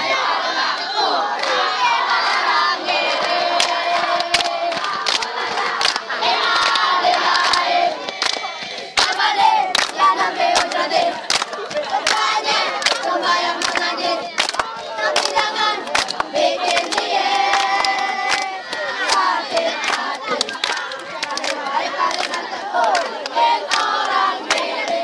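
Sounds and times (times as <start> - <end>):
boys chanting a rap: 0.0 - 25.0
hands clapping to a beat: 2.2 - 25.0.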